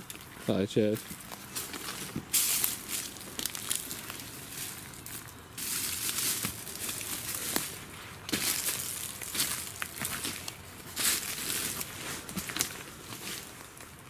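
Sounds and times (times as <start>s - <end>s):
footsteps through dry undergrowth: 0.0s - 14.0s.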